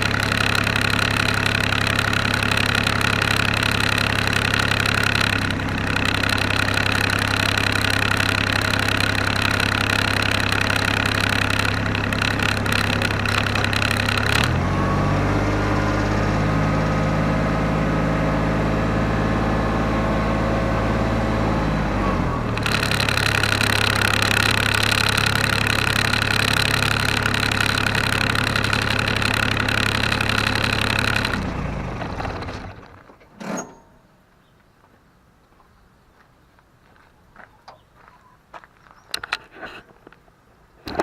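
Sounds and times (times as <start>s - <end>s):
diesel engine running: 0.0s - 33.2s.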